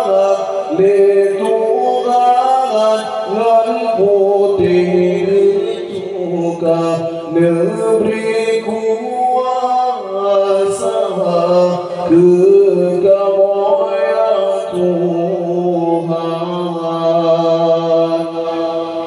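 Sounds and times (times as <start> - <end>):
man singing melismatic chant: 0.0 - 19.0.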